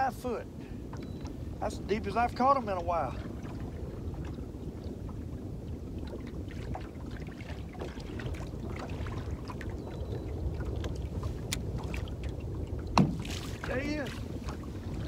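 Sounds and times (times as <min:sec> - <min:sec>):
small waves lapping against hull: 0:00.0 - 0:15.0
wind rumble on microphone: 0:00.0 - 0:15.0.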